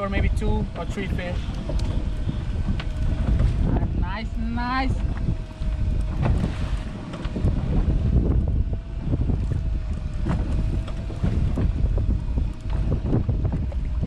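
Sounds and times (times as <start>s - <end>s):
electric reel whine: 0.0s - 14.0s
water splashing against hull: 0.0s - 14.0s
wind buffeting microphone: 0.0s - 14.0s.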